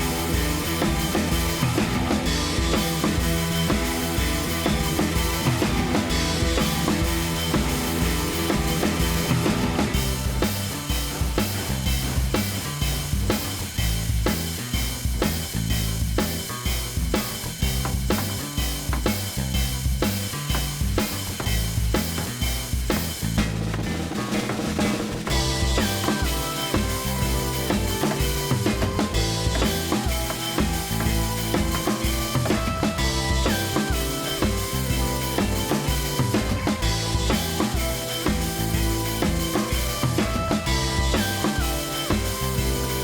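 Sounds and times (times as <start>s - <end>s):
bass drum and snare beat: 0.0s - 43.0s
bass line: 0.0s - 43.0s.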